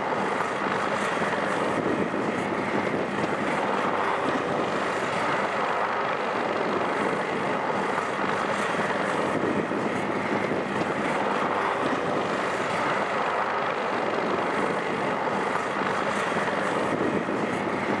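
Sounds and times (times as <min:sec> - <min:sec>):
helicopter engine and rotor: 0:00.0 - 0:18.0.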